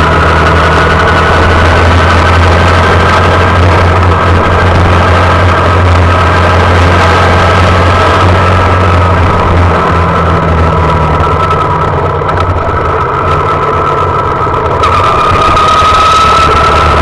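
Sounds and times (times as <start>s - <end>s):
small motorcycle engine running: 0.0s - 17.0s
thin whine: 0.0s - 17.0s.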